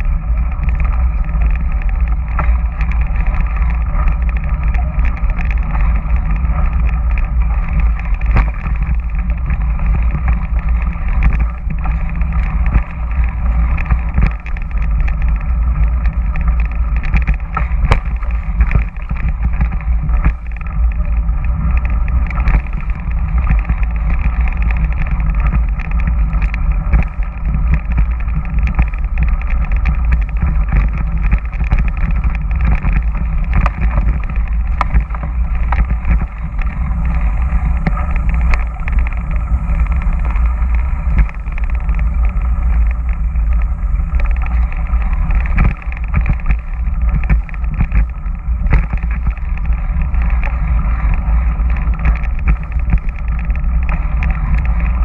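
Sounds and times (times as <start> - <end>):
bike knocks and rattles: 0.0 - 55.0
wind rumble on microphone: 0.0 - 55.0.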